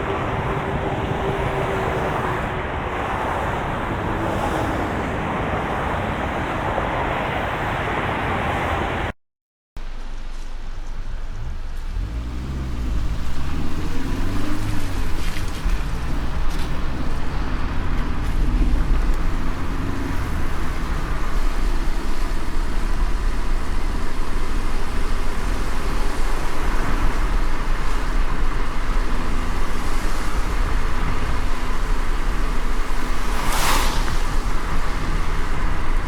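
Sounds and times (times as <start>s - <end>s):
car engine and road rumble: 0.0s - 9.1s, 9.8s - 36.0s.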